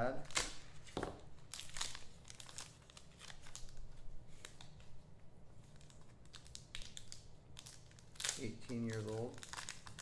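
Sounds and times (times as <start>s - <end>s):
card wrappers crinkling: 0.2s - 5.0s, 5.6s - 10.0s.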